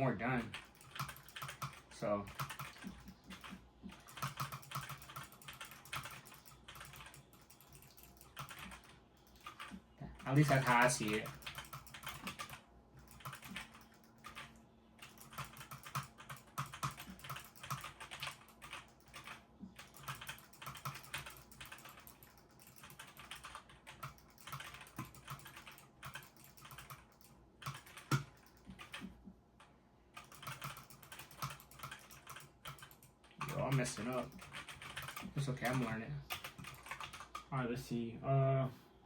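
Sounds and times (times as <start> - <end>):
computer keyboard key clicks: 0.5 - 9.8, 10.4 - 29.2, 30.2 - 37.4.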